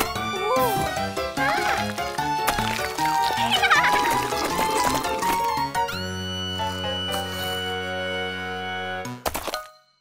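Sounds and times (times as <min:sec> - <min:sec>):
cartoon background music: 0:00.0 - 0:10.0.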